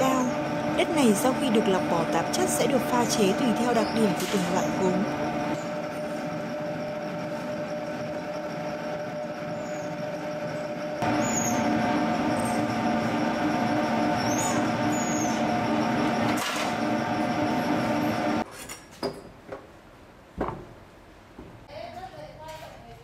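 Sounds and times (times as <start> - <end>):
machine humming: 0.0 - 18.4.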